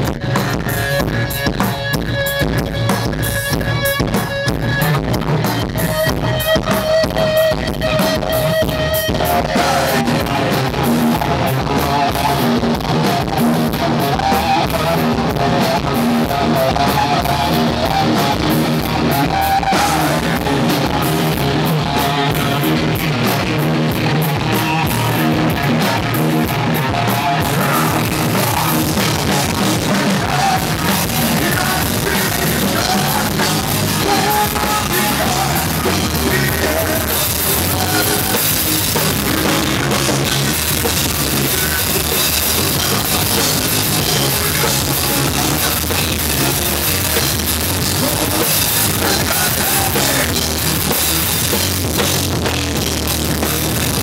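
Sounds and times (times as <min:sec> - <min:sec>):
live rock band playing: 0:00.0 - 0:54.0
man singing: 0:05.8 - 0:51.1.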